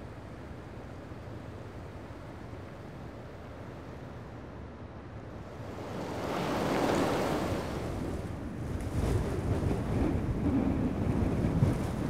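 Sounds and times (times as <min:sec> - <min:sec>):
rushing wind-like noise: 0:00.0 - 0:12.0.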